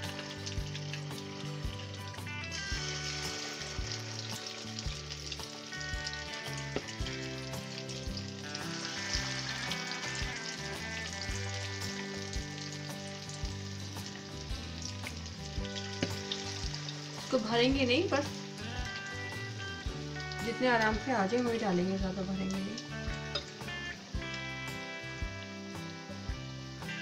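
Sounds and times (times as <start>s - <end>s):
chicken sizzling in hot oil: 0.0s - 27.0s
oil crackling and popping: 0.0s - 27.0s.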